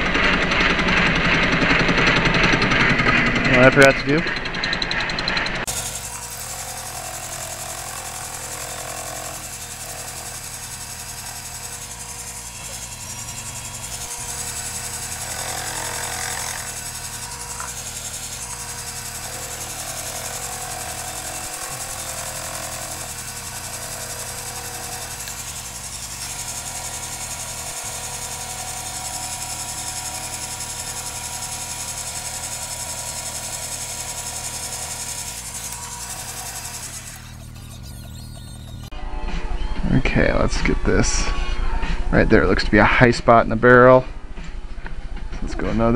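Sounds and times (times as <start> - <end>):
metal lathe running: 0.0 - 38.3.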